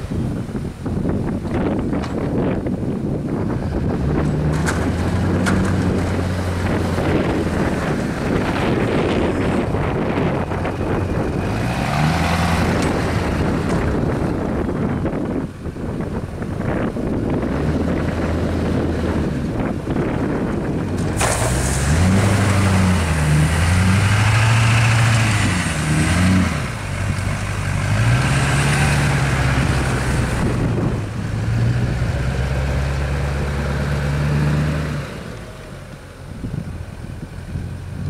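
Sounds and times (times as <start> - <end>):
diesel truck engine working: 0.0 - 38.0.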